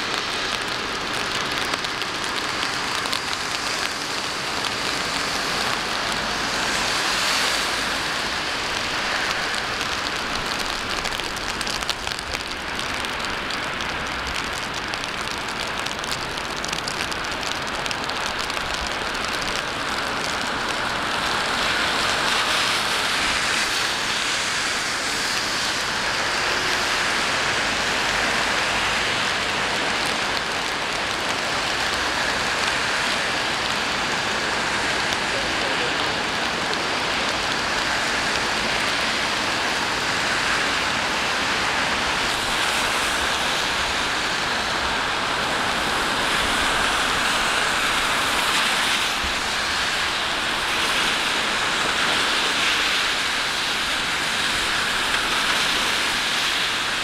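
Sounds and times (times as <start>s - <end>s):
rain falling on street: 0.0s - 57.0s
traffic hissing on wet road: 0.0s - 57.0s.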